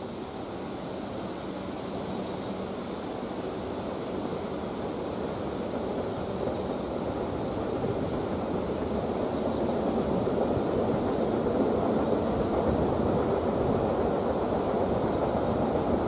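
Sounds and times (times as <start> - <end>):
train rumbling: 0.0 - 16.0
wind: 0.0 - 16.0.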